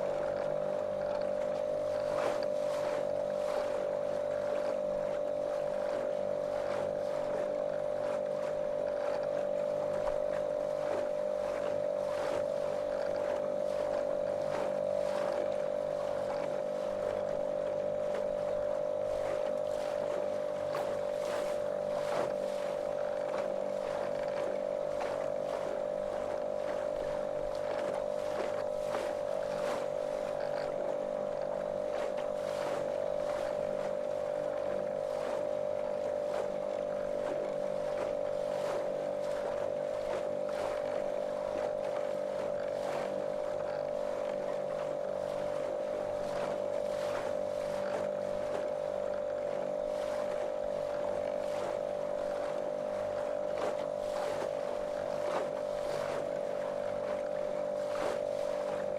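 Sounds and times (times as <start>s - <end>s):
motorboat motor humming: 0.0s - 58.9s
water splashing against hull: 0.0s - 58.9s.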